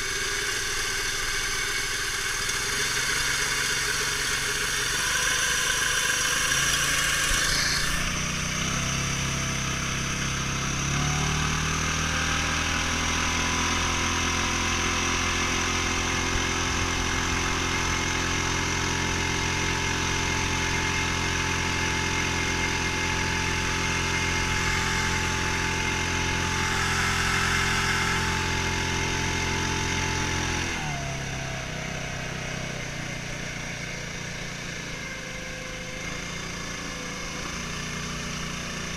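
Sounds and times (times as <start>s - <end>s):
boat motor running: 0.0s - 38.9s.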